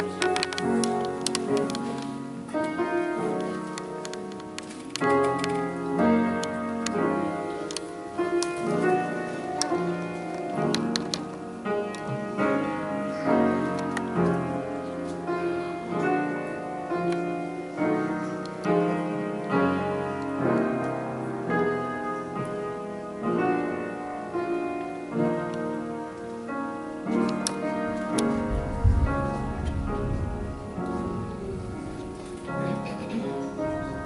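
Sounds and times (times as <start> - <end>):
piano playing slow chords: 0.0 - 34.0.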